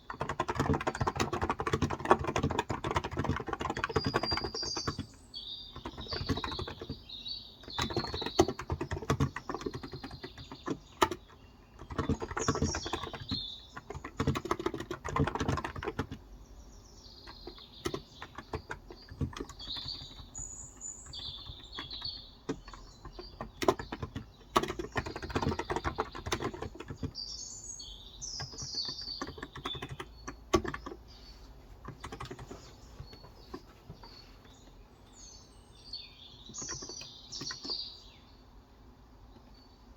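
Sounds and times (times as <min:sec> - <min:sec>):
keyboard typing: 0:00.0 - 0:16.2, 0:17.2 - 0:27.2, 0:28.4 - 0:31.1, 0:31.8 - 0:34.1, 0:36.5 - 0:37.8
small birds chirping: 0:00.0 - 0:39.9.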